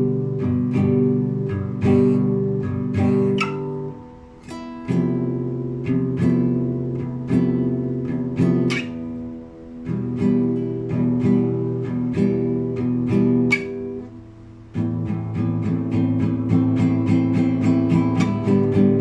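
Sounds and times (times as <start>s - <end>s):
classical guitar arpeggios: 0.0s - 19.0s.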